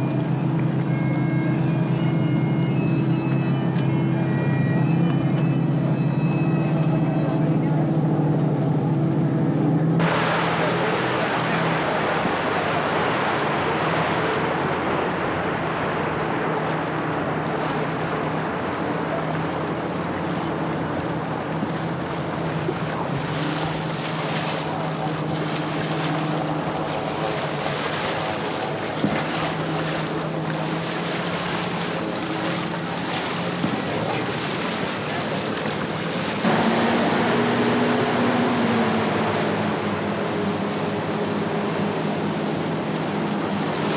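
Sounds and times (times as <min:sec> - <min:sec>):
boat engine droning: 0:00.0 - 0:43.9
motorboat passing close: 0:00.0 - 0:43.9
water rushing: 0:00.0 - 0:43.9.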